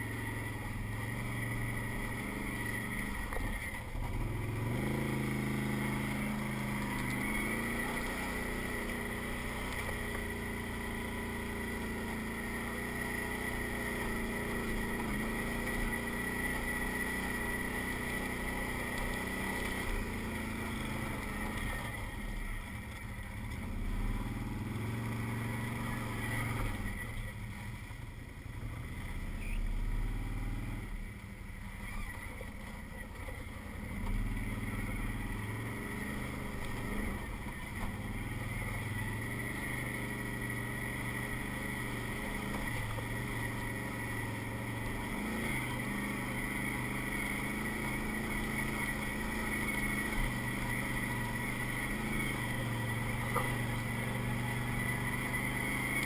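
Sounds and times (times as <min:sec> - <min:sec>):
atv engine revving: 0:00.0 - 0:27.8, 0:28.5 - 0:56.0.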